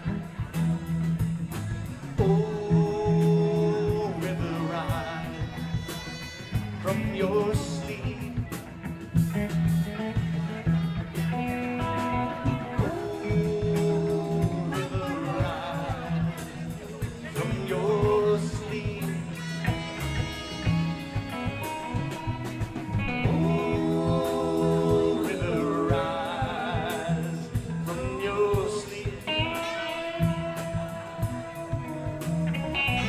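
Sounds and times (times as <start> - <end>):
bass: 0.0 - 33.0
drums: 0.0 - 33.0
electric guitar: 0.0 - 33.0
man singing: 2.1 - 33.0.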